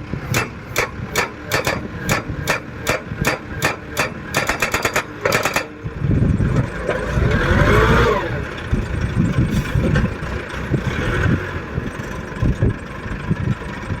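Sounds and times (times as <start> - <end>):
machine engine rumbling: 0.0 - 14.0.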